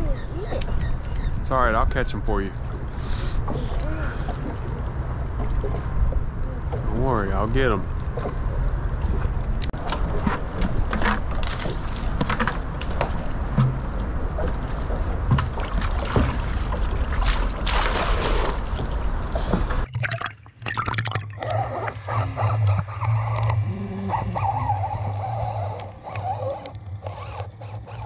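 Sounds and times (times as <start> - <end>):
water lapping against hull: 0.0 - 28.0.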